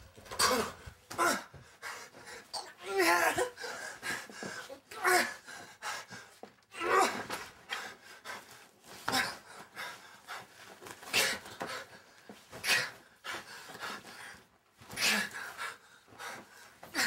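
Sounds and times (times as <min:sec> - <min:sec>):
man panting and grunting: 0:00.2 - 0:17.0.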